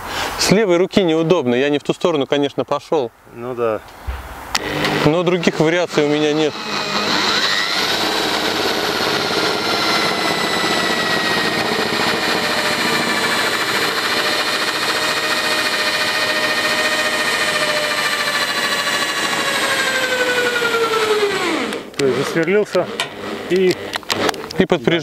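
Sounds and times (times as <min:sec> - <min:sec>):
power drill whining: 0:04.6 - 0:24.6.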